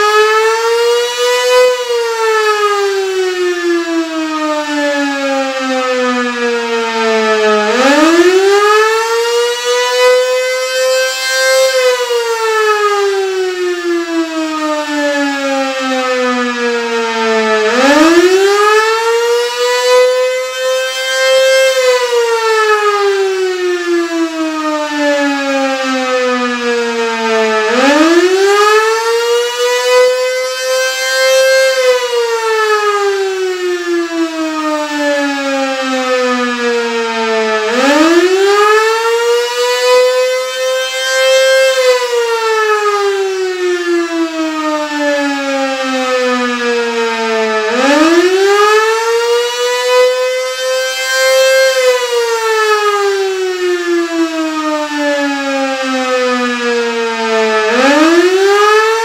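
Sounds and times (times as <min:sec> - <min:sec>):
civil defense siren wailing: 0:00.0 - 0:59.0.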